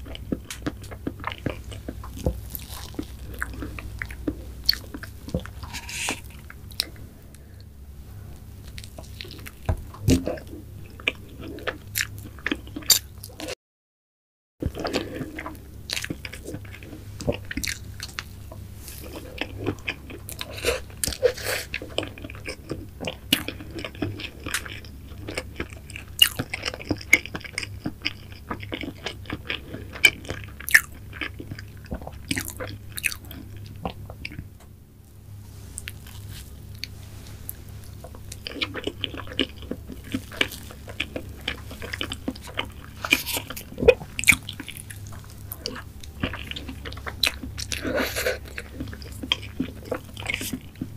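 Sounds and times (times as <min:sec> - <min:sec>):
wet chewing mouth sounds: 0:00.0 - 0:07.0, 0:14.6 - 0:34.4, 0:35.8 - 0:50.9.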